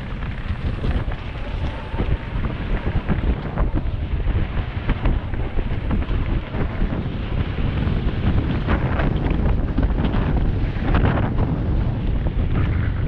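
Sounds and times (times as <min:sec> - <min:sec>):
tyres rolling over dirt and leaves: 0:00.0 - 0:10.8
bike clattering over bumps: 0:00.0 - 0:13.0
wind rushing over microphone: 0:00.0 - 0:13.0.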